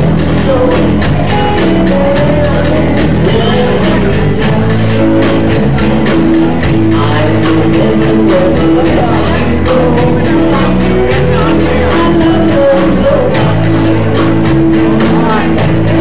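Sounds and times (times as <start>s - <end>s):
electric guitars: 0.0s - 16.0s
steady drum beat: 0.0s - 16.0s.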